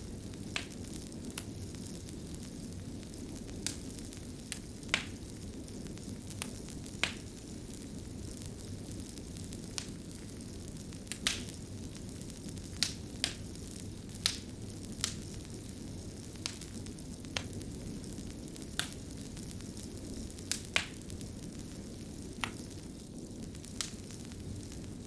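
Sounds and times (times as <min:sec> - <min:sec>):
fire crackles and pops: 0:00.0 - 0:25.0
wood fire rumbling: 0:00.0 - 0:25.0.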